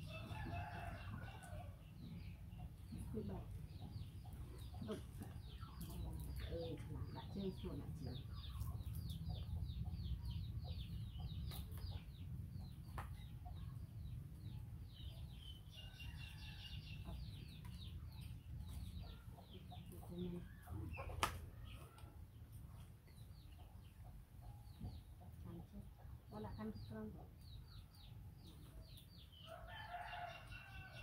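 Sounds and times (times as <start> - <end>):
birds peeping: 0.0 - 31.0.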